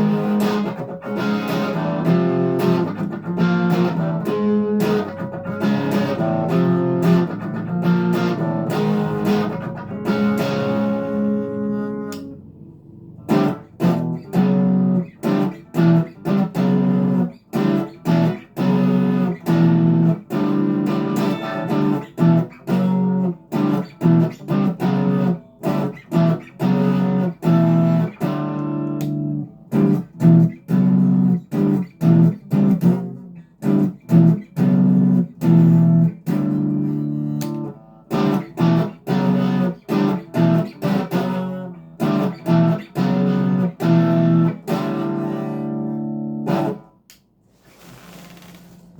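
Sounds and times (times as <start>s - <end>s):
electric guitar chords: 0.0s - 47.1s.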